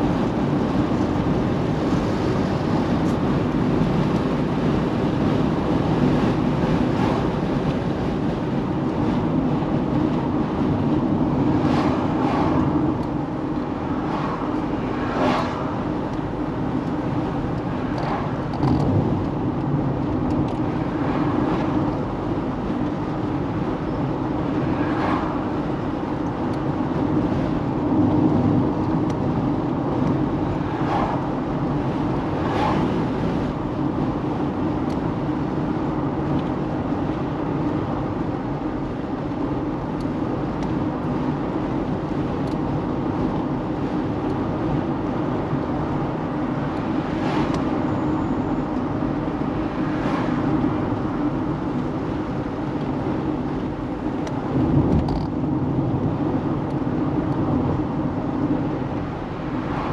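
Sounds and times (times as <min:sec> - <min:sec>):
car engine and tyre hum: 0:00.0 - 0:59.9.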